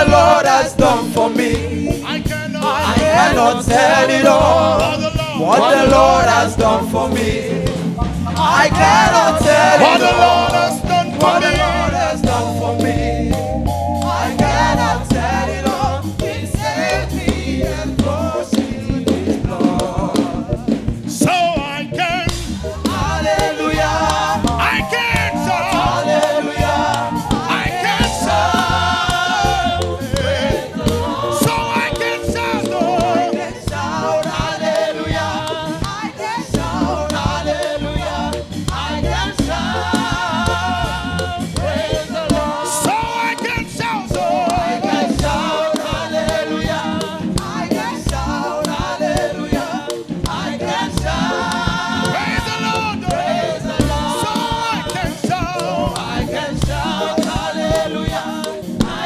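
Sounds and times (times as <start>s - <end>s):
choir singing: 0.0s - 59.0s
instrumental accompaniment: 0.0s - 59.0s.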